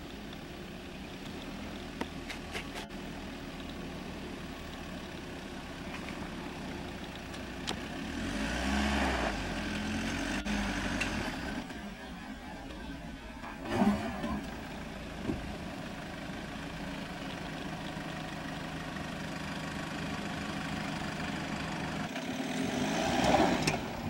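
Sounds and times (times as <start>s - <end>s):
diesel engine running at low revs: 0.0s - 24.0s.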